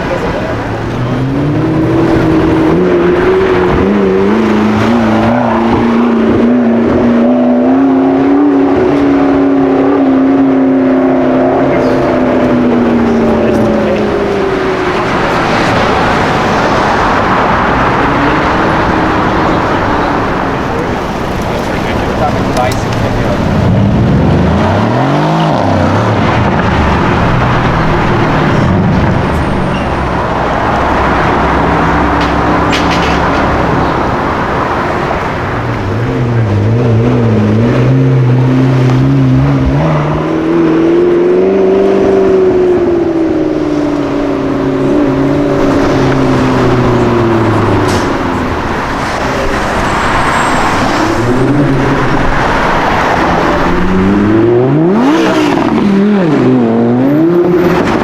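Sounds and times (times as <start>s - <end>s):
car engine accelerating: 0.0s - 58.0s
car engines running: 0.0s - 58.0s.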